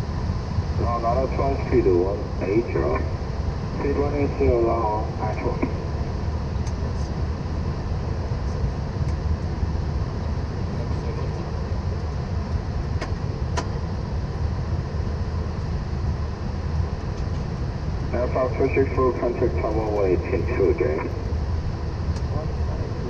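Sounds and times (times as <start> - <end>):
aircraft cabin rumble: 0.0 - 23.0.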